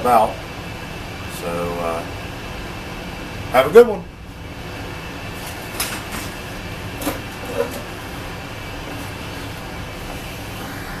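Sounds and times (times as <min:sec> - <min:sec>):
furnace humming: 0:00.0 - 0:11.0.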